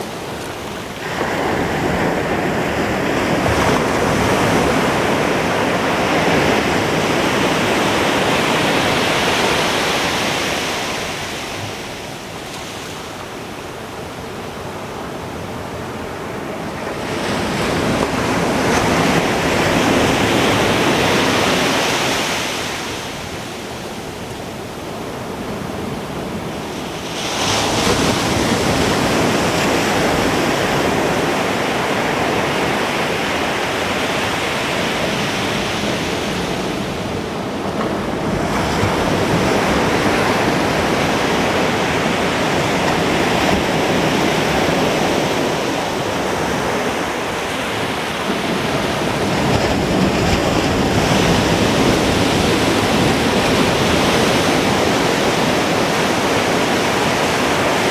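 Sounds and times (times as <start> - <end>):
ocean waves breaking on beach: 0.0 - 57.9
wind noise on microphone: 0.0 - 57.9.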